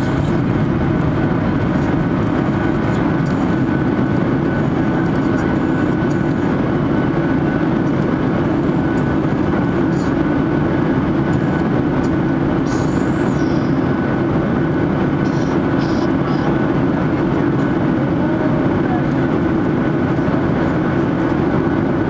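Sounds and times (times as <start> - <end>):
airplane cabin roar: 0.0 - 22.0
faint steady whine: 0.0 - 22.0.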